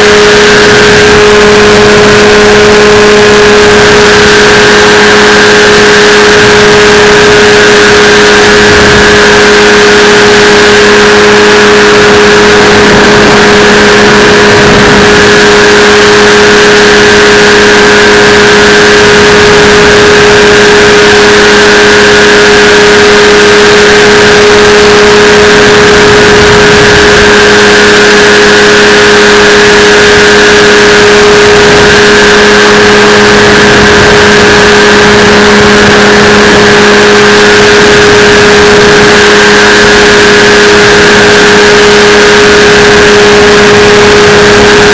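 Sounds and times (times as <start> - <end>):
engine and propeller droning: 0.0 - 44.9.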